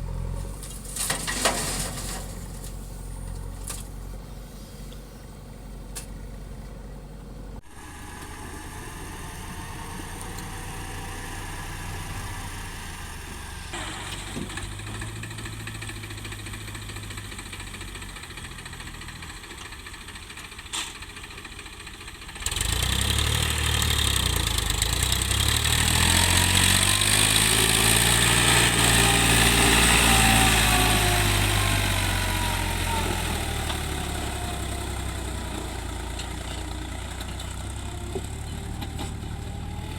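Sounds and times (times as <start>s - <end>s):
diesel engine droning and revving: 0.0s - 1.0s, 7.0s - 39.9s.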